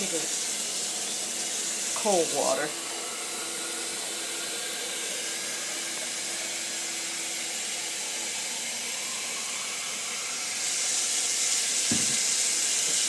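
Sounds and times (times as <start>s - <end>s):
water running from a tap: 0.0s - 13.0s.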